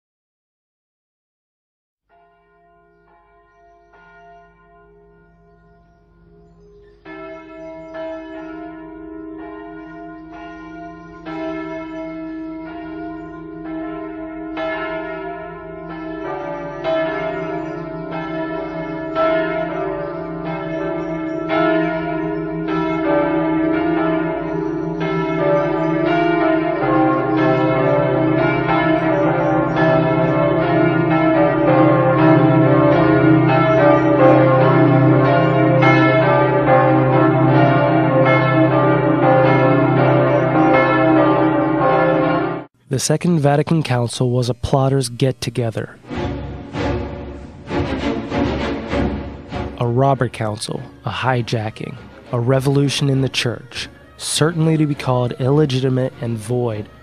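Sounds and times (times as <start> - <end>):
church bells ringing: 2.1 - 57.0.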